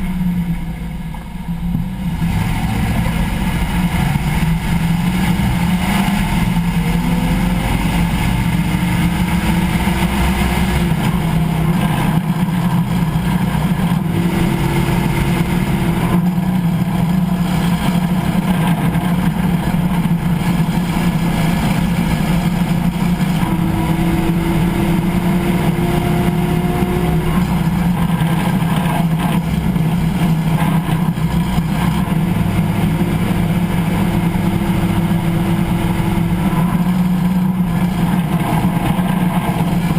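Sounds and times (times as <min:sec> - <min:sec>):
driveline and road noise drone: 0:00.0 - 0:39.9
faint driveline whine: 0:00.0 - 0:39.9.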